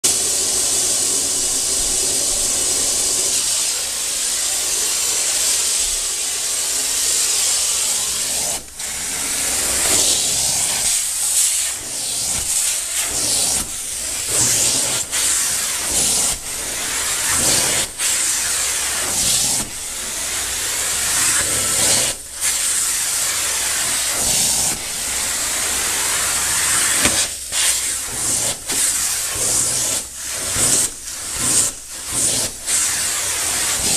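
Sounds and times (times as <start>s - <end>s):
carpet cleaner hand tool hissing: 0.0s - 33.9s.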